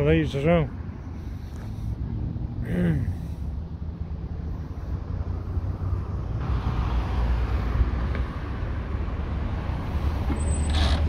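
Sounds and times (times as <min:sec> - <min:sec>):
car driving past: 0:01.8 - 0:11.0.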